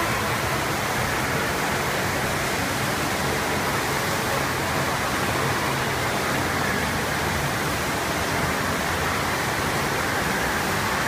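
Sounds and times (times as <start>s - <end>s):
water rushing up a ramp: 0.0s - 11.0s.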